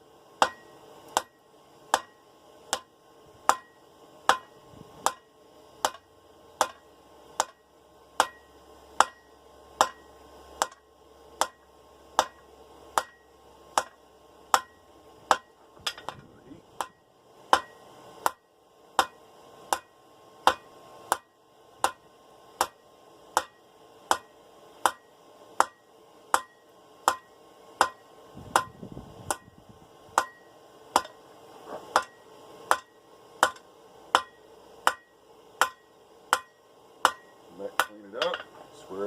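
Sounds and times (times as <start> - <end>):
hammer striking steel on anvil: 0.4 - 2.9, 3.5 - 7.6, 8.2 - 16.2, 16.8 - 29.5, 30.1 - 31.2, 31.8 - 38.6.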